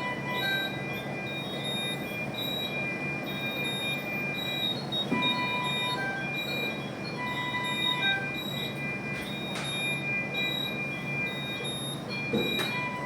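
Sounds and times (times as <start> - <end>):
medical equipment alarm beeps: 0.0 - 13.0
steady equipment hum: 0.0 - 13.0.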